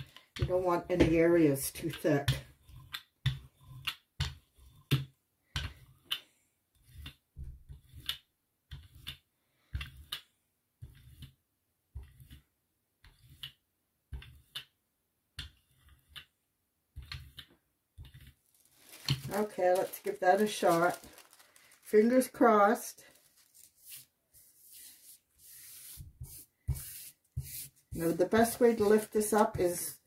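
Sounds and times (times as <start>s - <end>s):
rubber brayer rolling over wet paint: 0.0s - 30.0s.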